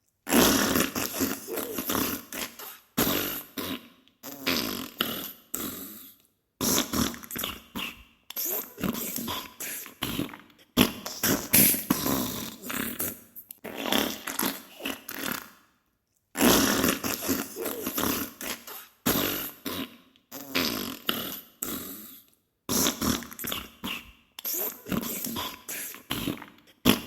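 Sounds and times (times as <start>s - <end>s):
wet sputtering farts: 0.3s - 6.0s, 6.6s - 15.6s, 16.4s - 21.8s, 22.7s - 27.0s.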